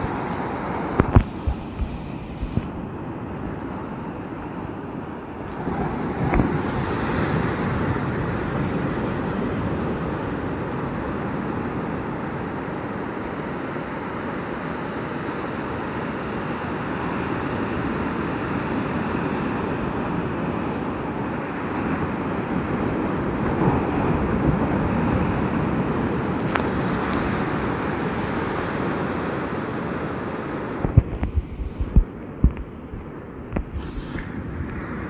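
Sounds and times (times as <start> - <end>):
sea surf washing onto beach: 0.0 - 35.0.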